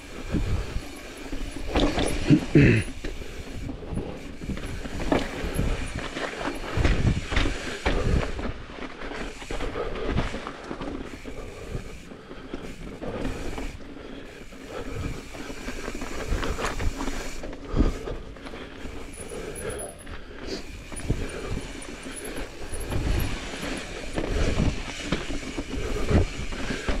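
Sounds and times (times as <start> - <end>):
mountain bike rattling over rock: 0.0 - 27.0.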